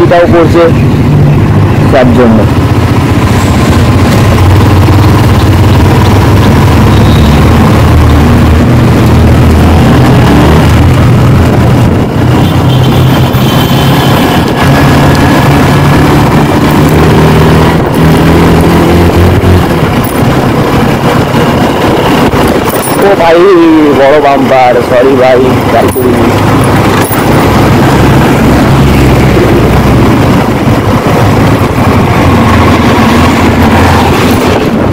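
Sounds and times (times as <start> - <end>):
wind rush over microphone: 0.0 - 34.9
motorcycle engine cruising: 0.6 - 34.9.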